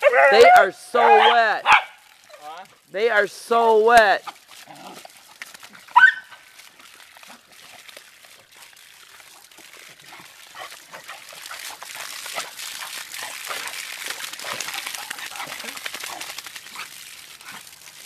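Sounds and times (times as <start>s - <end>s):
dogs splashing and snapping: 0.0s - 2.9s, 3.6s - 18.0s
garden hose spraying water: 0.0s - 18.0s.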